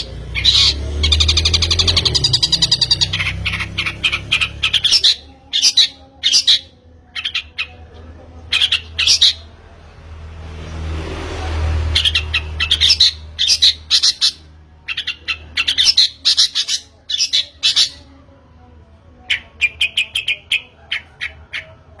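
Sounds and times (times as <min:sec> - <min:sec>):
shrike singing harsh chatter: 0:00.0 - 0:09.7, 0:11.8 - 0:22.0.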